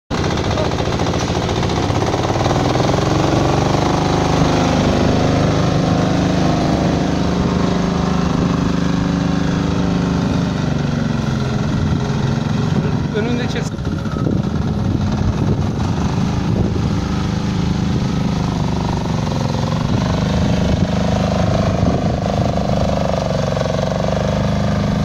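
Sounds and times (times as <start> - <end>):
small engine running: 0.1 - 25.0.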